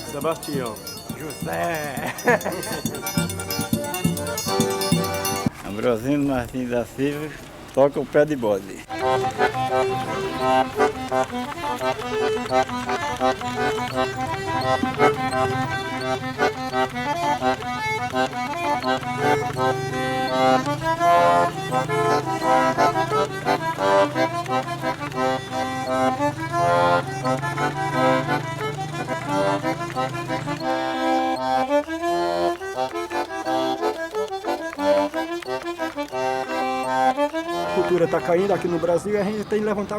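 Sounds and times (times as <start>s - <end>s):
accordion playing lively tune: 0.0s - 7.7s, 8.4s - 39.9s.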